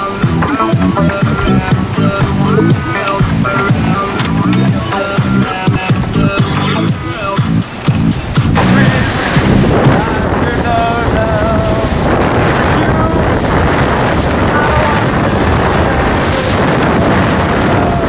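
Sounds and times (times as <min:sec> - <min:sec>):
seawater rushing along hull: 0:00.0 - 0:18.0
wind buffeting microphone: 0:00.0 - 0:18.0.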